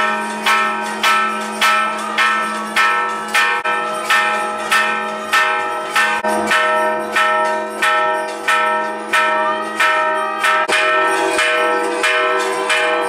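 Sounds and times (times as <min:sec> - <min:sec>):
temple bell ringing: 0:00.0 - 0:13.0.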